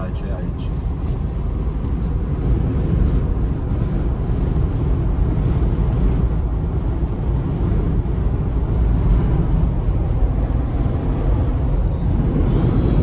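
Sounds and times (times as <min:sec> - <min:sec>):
tyre and engine noise: 0:00.0 - 0:13.0
wind buffeting a car: 0:00.0 - 0:13.0.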